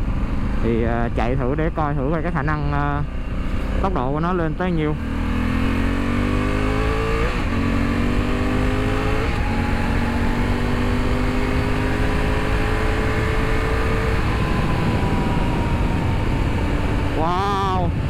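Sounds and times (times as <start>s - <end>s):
motorcycle engine accelerating: 0.0s - 18.0s
wind rush: 0.0s - 18.0s.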